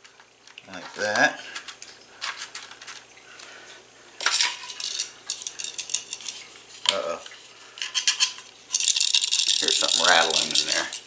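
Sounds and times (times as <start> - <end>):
plastic parts clattering: 0.1 - 3.5, 4.2 - 7.1, 7.8 - 11.0.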